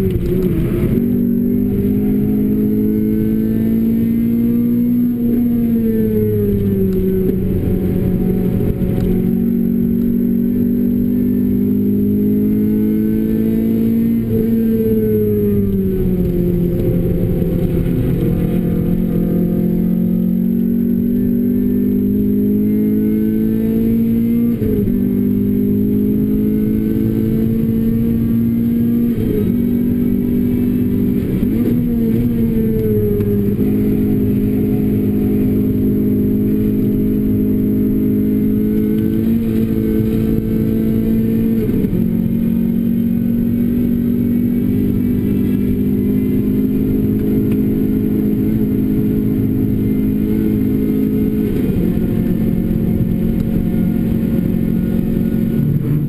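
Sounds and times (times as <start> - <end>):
car engine at high revs: 0.0 - 56.0.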